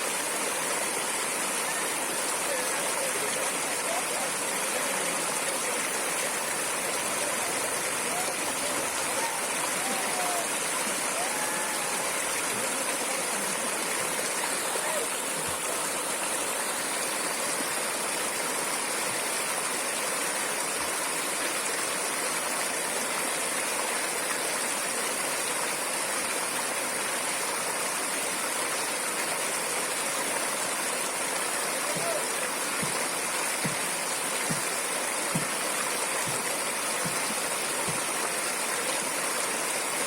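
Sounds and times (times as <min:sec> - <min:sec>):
stream water flowing: 0:00.0 - 0:40.0.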